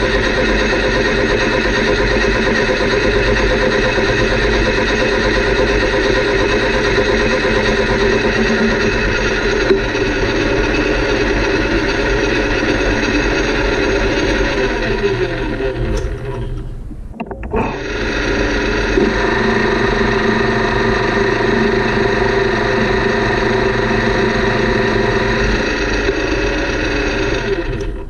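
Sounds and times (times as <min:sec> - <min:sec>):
metal lathe whine: 0:00.0 - 0:16.9, 0:17.5 - 0:28.0.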